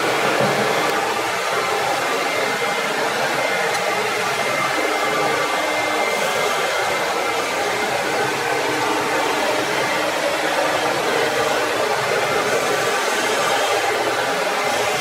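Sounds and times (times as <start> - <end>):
dust extractor rushing air: 0.0 - 15.0.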